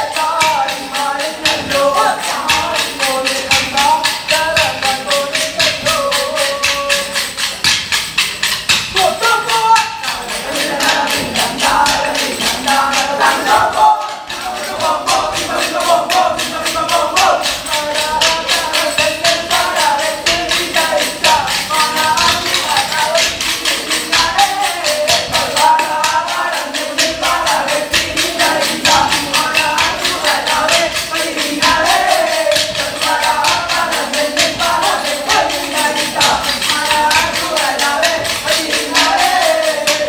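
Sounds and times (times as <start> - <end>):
men singing folk song: 0.0 - 7.8, 8.4 - 40.0
sticks clacking together: 0.1 - 40.0.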